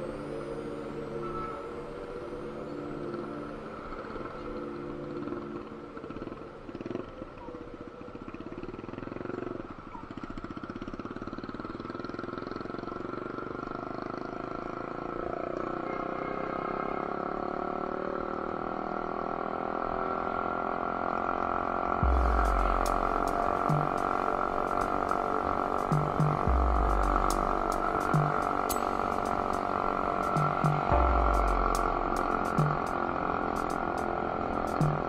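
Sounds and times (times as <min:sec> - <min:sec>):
wind and road noise: 0:00.0 - 0:35.0
motorcycle engine running: 0:06.0 - 0:35.0.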